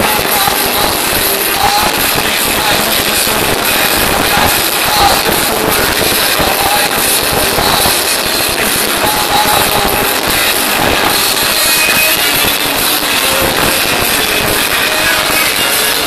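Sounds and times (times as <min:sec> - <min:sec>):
distorted live band music: 0:00.0 - 0:16.0.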